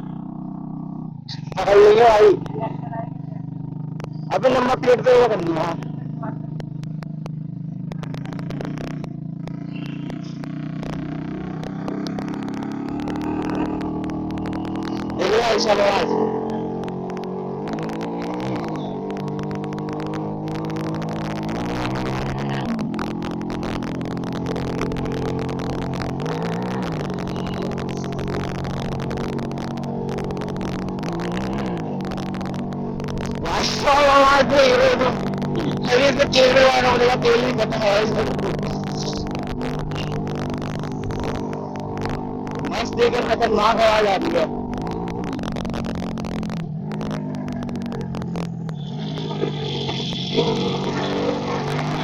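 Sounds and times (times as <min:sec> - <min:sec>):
motorcycle engine running: 0:00.0 - 0:52.0
sharp ticks: 0:01.0 - 0:52.0.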